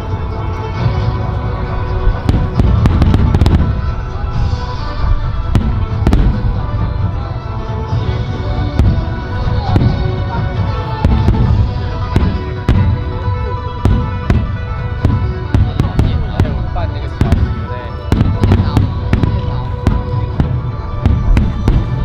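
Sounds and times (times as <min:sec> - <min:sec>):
music playing: 0:00.0 - 0:22.0
fireworks cracking: 0:00.2 - 0:22.0
fireworks shells booming: 0:00.2 - 0:22.0.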